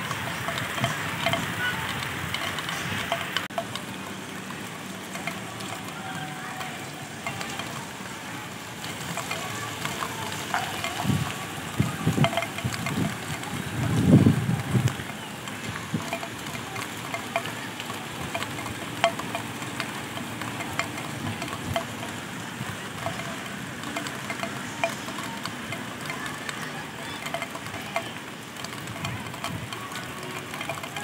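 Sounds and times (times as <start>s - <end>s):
drips ticking: 0.0s - 31.0s
light rain hissing: 0.0s - 31.0s.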